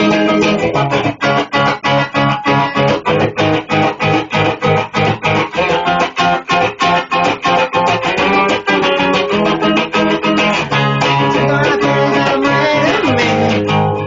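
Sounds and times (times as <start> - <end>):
guitar note gliding down: 0.0 - 14.0
punk rock band music: 0.0 - 14.0.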